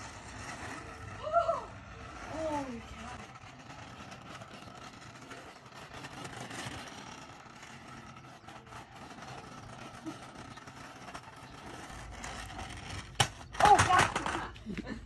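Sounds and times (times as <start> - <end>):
board wheels rolling on concrete: 0.0 - 15.0.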